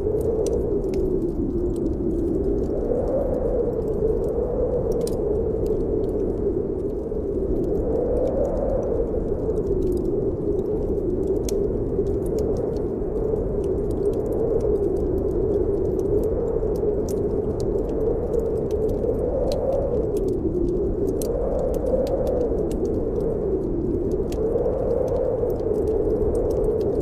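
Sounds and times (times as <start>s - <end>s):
wind howling: 0.0s - 27.0s
wood fire crackling: 0.0s - 27.0s.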